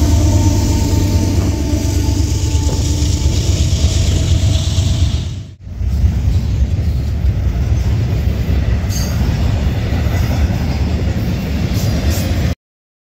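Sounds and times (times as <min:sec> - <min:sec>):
freight train rolling past: 0:00.0 - 0:12.6.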